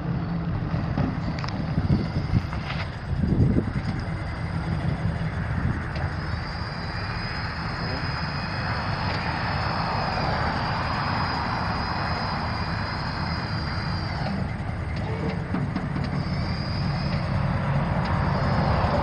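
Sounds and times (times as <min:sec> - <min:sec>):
pickup truck engine running: 0:00.0 - 0:19.0
steady high whine: 0:00.0 - 0:19.0.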